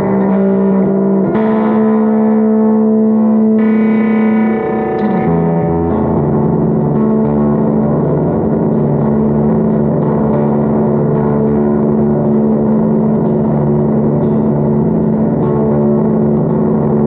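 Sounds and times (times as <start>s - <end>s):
fuzz electric guitar drone: 0.0s - 17.0s.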